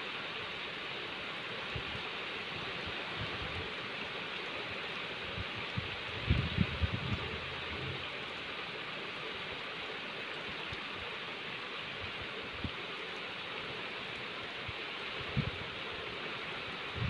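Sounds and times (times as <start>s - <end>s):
heavy rain on standing water: 0.0s - 17.0s.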